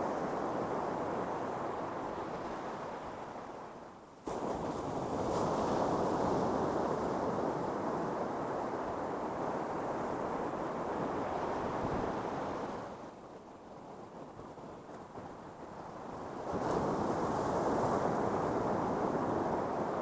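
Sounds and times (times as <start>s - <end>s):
ocean waves breaking on beach: 0.0s - 13.2s, 15.6s - 20.0s.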